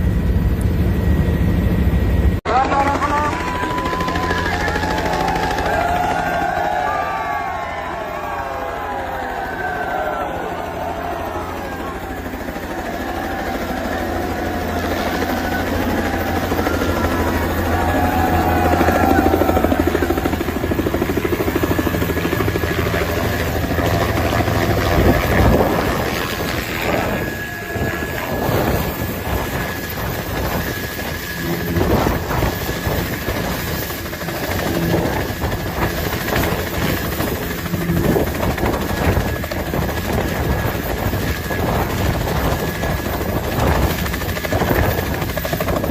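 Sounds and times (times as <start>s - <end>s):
helicopter rotor chopping: 0.0s - 45.9s.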